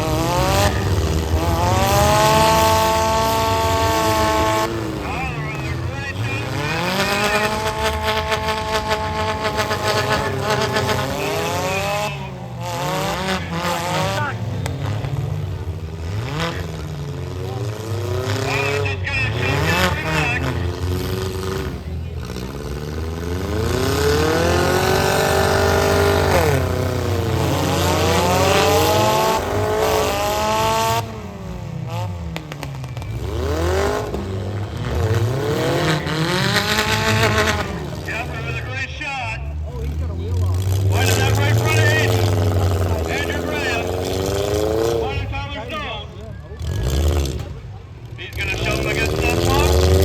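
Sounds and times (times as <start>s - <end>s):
car engines revving hard: 0.0s - 50.0s.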